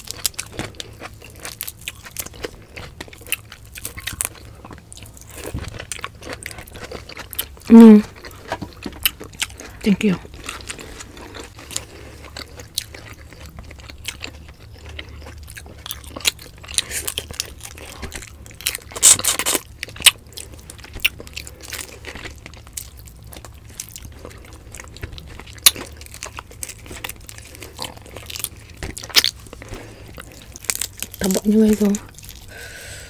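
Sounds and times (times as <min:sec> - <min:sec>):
crunchy bites: 0:00.0 - 0:33.0
person chewing fish: 0:00.0 - 0:33.0.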